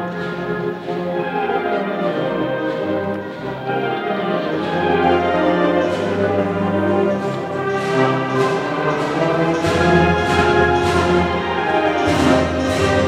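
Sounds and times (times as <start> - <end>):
percussion strokes: 0.0 - 13.0
solemn brass band march: 0.0 - 13.0.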